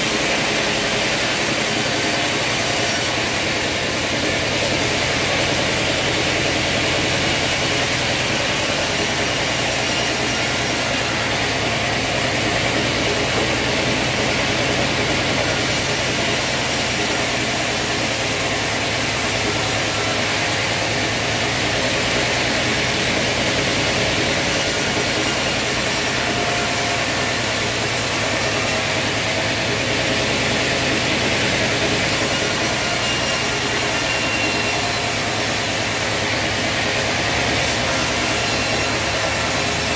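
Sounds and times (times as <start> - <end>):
bandsaw cutting logs: 0.0 - 39.9.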